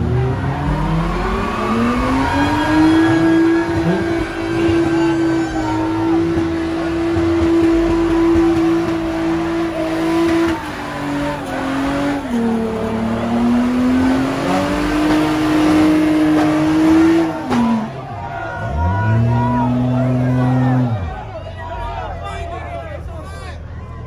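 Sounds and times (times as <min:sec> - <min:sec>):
car engine revving high: 0:00.0 - 0:21.4.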